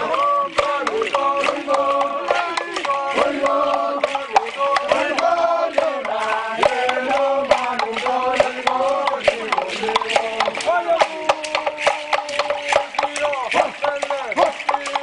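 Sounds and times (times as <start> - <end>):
group chanting in parts: 0.0 - 15.0.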